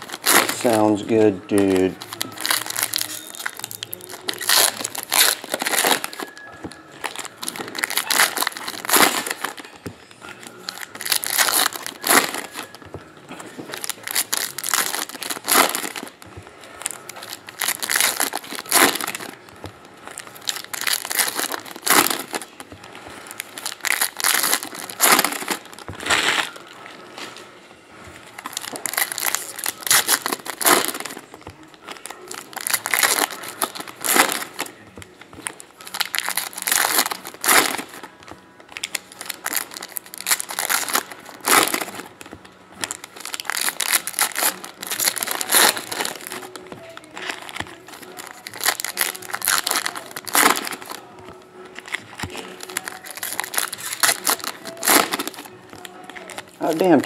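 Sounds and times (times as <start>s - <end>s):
foil packs crinkling: 0.0s - 27.5s, 28.2s - 57.0s.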